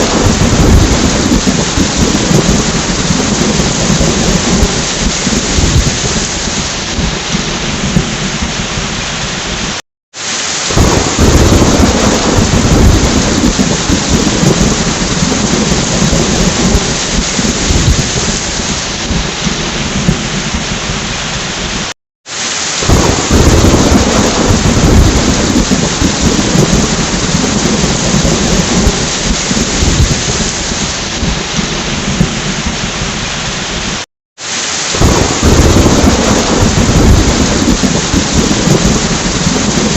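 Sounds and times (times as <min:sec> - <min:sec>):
rolling thunder: 0:00.0 - 0:09.8, 0:10.7 - 0:21.8, 0:22.8 - 0:34.0, 0:34.9 - 0:39.9
heavy rain: 0:00.0 - 0:39.9.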